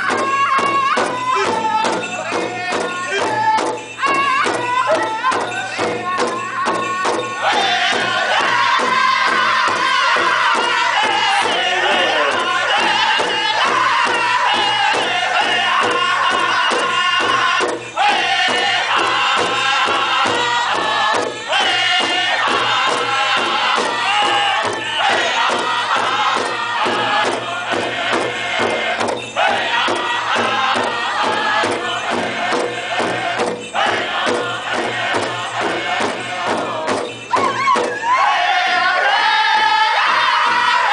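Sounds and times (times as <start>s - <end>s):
large drum steady beat: 0.0s - 40.9s
men singing in unison: 0.0s - 40.9s.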